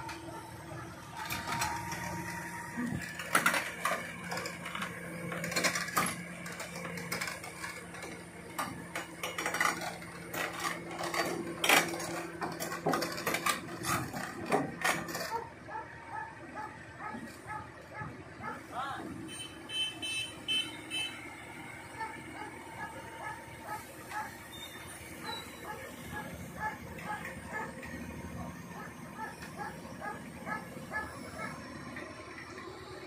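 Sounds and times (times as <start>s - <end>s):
excavator engine humming: 0.0s - 33.0s.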